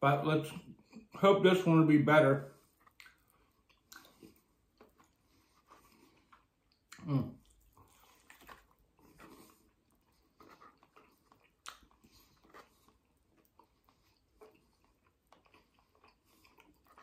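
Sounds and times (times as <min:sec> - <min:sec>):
man chewing and smacking lips: 0:00.5 - 0:01.2, 0:02.6 - 0:17.0.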